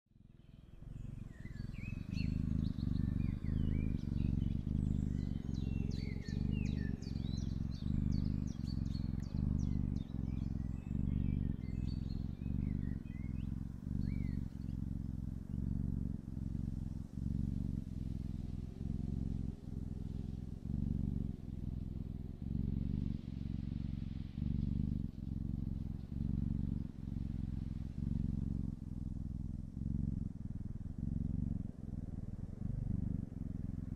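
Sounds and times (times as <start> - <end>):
kitten purring: 0.1 - 33.9
small birds chirping: 0.2 - 30.4.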